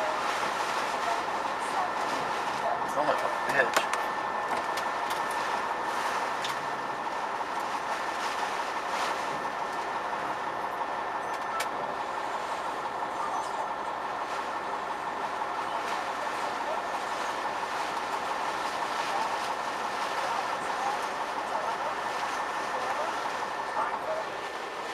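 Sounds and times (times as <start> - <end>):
storm wind and rain roar: 0.0 - 24.9.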